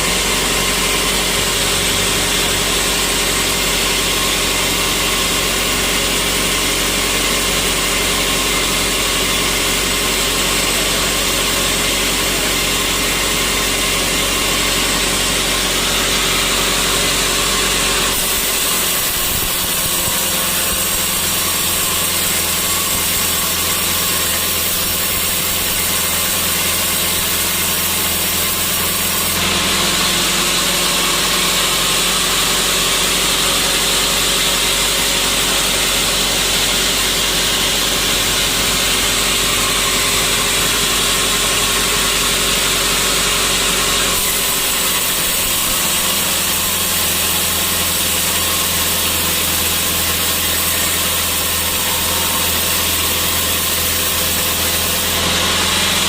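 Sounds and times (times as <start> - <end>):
sawmill saw and machinery: 0.0 - 56.0.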